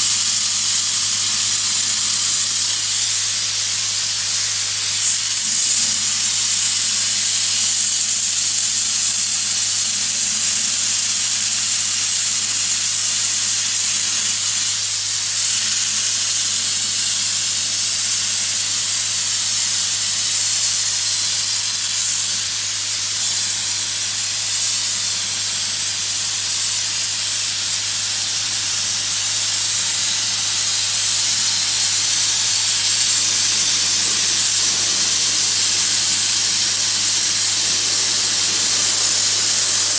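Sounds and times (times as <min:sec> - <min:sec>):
bead blaster hissing: 0:00.0 - 0:39.9.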